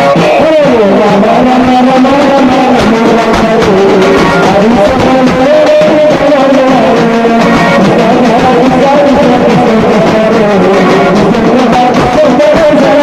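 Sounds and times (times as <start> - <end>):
bass drums beating: 0.0 - 13.0
festive band music: 0.0 - 13.0.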